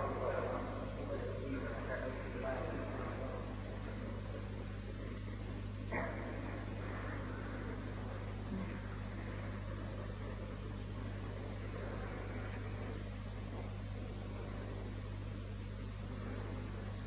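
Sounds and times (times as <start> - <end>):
low mains hum: 0.0 - 17.0
recording hiss: 0.0 - 17.0.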